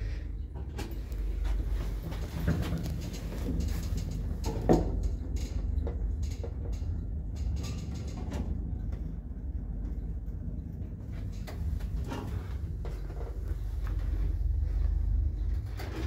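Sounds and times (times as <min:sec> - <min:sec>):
lift running in shaft: 0:00.0 - 0:16.0.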